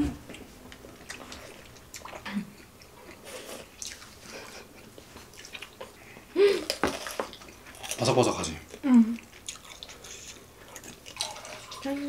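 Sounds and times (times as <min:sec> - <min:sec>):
chewing: 0:00.3 - 0:12.0.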